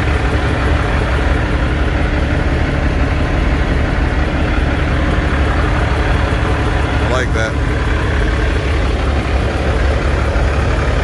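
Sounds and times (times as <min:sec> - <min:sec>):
diesel truck idling: 0:00.0 - 0:11.0.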